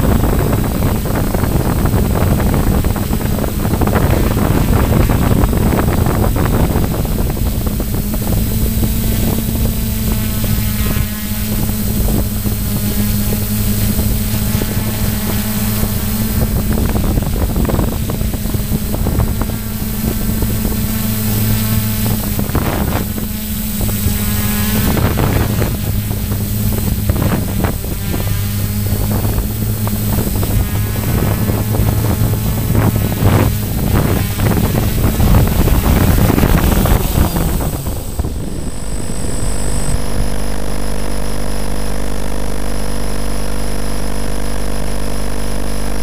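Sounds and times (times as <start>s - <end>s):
wind buffeting microphone: 0.0s - 40.4s
model airplane motor and propeller: 0.0s - 46.0s.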